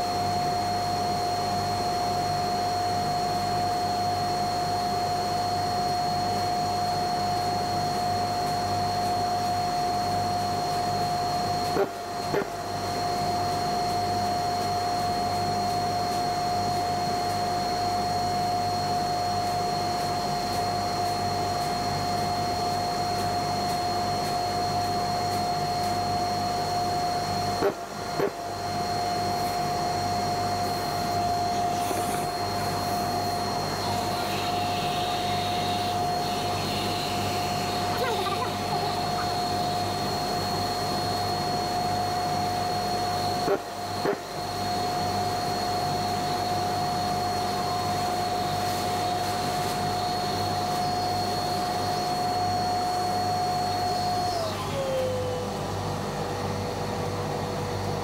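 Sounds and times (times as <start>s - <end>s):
vacuum whine and hiss: 0.0s - 58.0s.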